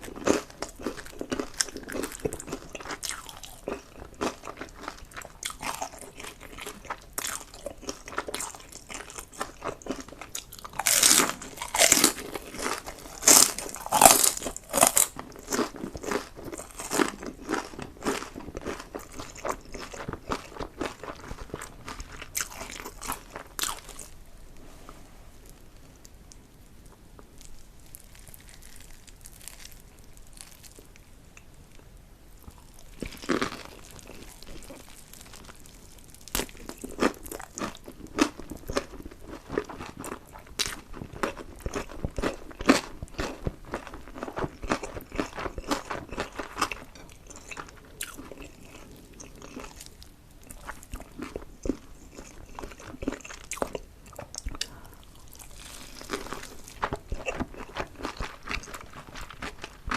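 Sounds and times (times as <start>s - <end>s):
person chewing food: 0.0s - 24.2s, 24.9s - 31.8s, 32.4s - 59.9s.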